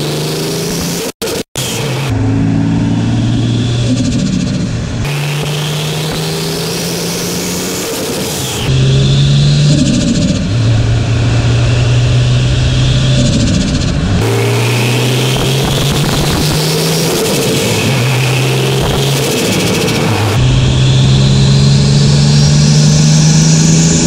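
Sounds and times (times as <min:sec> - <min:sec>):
car engine drone: 0:00.0 - 0:24.0.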